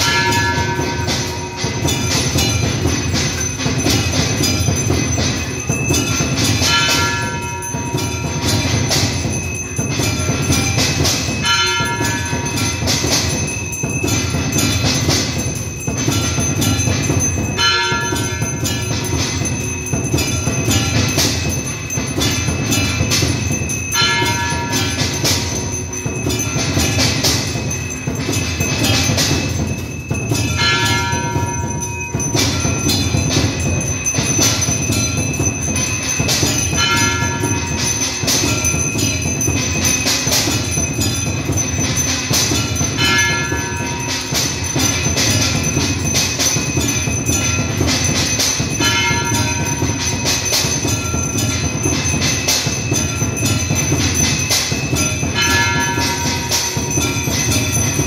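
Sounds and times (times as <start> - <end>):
hand bell ringing: 0.0 - 58.0
loud clanging: 0.0 - 58.0.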